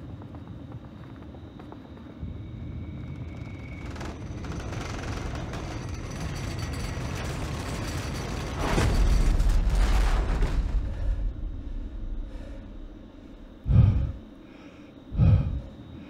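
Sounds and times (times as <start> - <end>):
deep earthquake rumble: 0.0 - 15.9.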